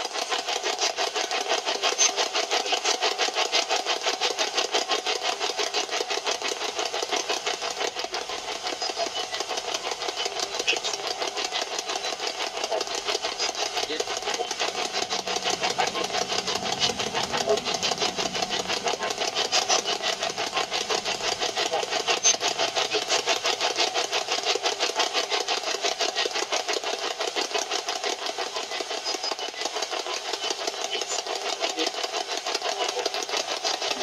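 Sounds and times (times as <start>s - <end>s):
radio static and broadcast fragments: 0.0s - 26.8s, 27.4s - 34.0s.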